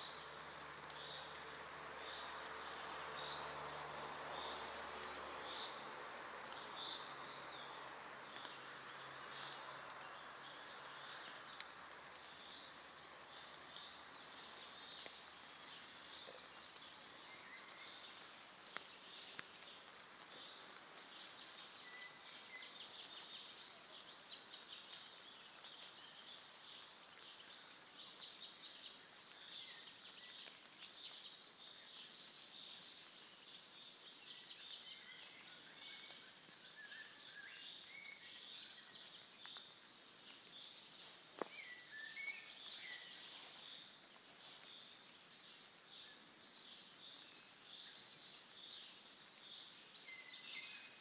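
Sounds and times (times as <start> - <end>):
songbirds singing faintly: 0.0 - 51.0
steady background hiss: 0.0 - 51.0.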